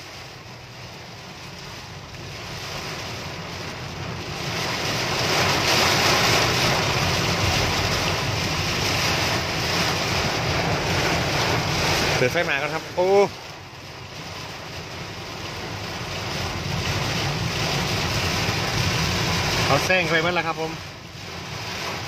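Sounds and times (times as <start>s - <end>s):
heavy rain on car roof: 0.0s - 22.0s.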